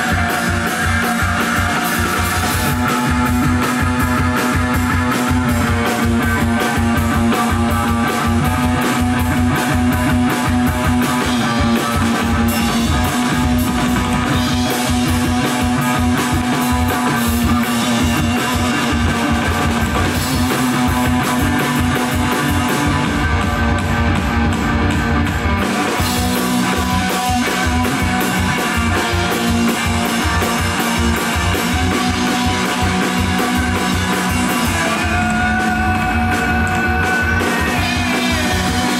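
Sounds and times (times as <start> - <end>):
drum kit playing: 0.0 - 38.9
electric guitar: 0.0 - 38.9.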